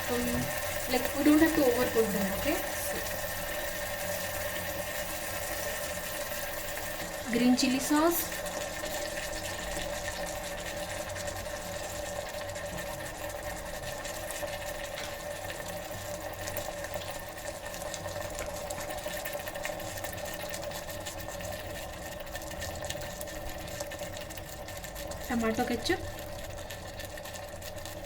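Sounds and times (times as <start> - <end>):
steady mechanical hum: 0.0 - 28.0
vegetables sizzling in oil: 0.0 - 28.0.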